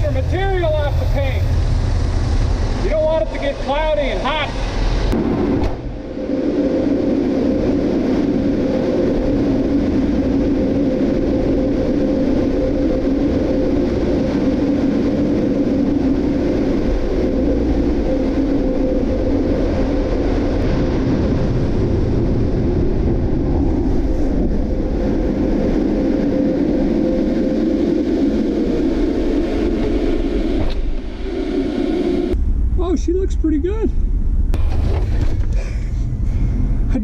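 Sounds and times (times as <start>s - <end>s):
car wash blower dryers: 0.0s - 33.2s.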